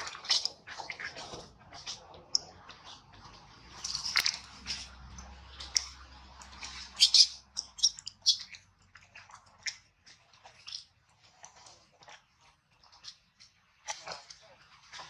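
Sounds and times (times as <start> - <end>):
soft clicks and rustles: 0.0 - 15.0.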